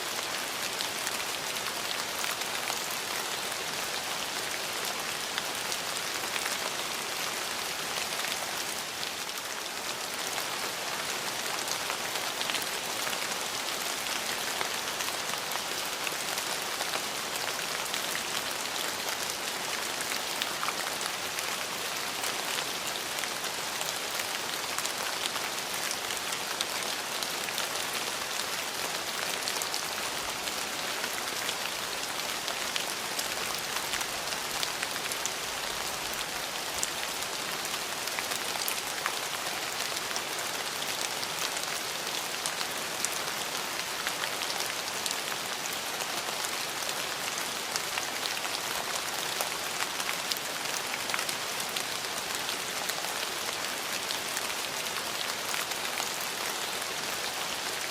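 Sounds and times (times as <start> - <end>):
steady rain pattering: 0.0 - 57.9.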